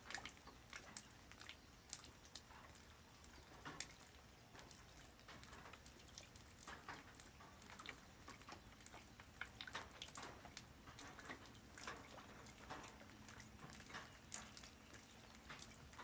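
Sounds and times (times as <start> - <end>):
rain drops on ground: 0.0 - 16.0.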